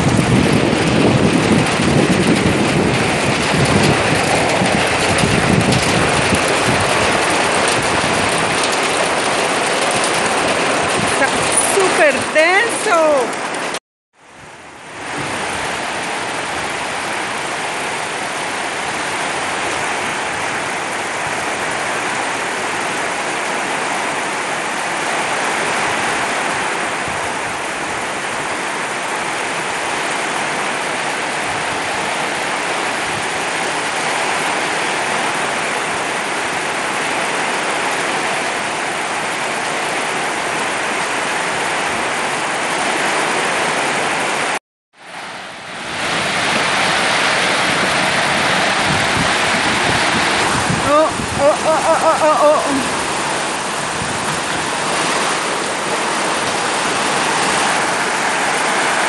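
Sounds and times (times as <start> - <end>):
heavy rain hissing: 0.0 - 13.8, 14.4 - 59.0.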